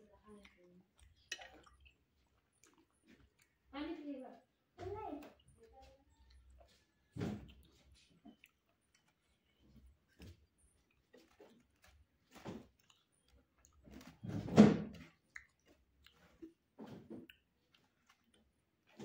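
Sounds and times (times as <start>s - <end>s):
person chewing crunchy food: 0.2s - 3.7s, 5.4s - 14.3s, 14.9s - 19.0s.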